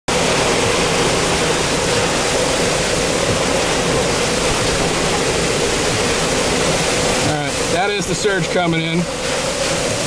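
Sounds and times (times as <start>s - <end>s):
driving rain: 0.1s - 10.0s
hurricane wind rushing: 0.1s - 10.0s
water washing across road: 0.1s - 10.0s.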